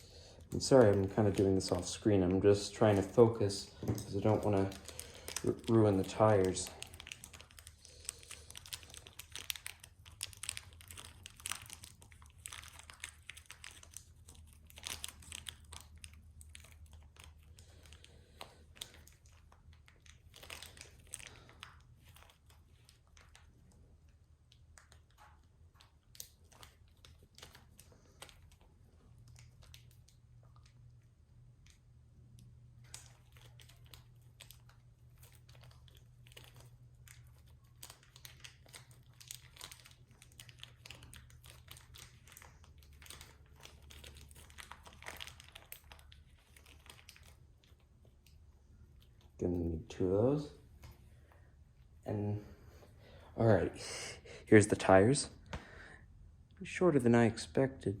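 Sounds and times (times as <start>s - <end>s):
packaging crinkling and tearing: 0.0s - 51.9s.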